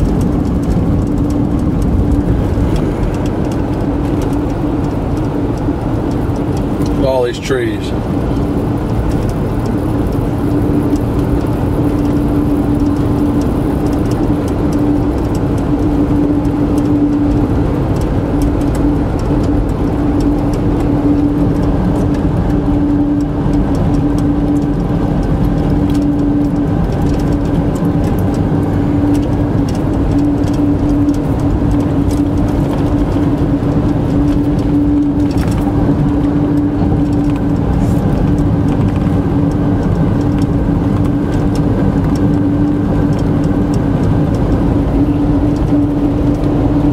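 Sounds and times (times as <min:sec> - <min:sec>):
car engine: 0:00.0 - 0:46.9
tyre road noise: 0:00.0 - 0:46.9.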